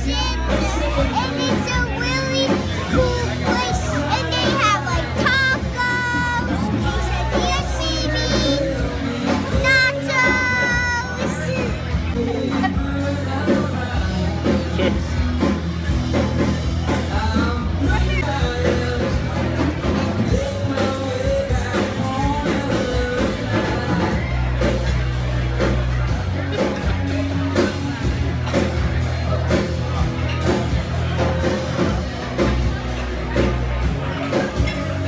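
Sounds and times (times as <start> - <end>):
rock song with singer: 0.0 - 35.0.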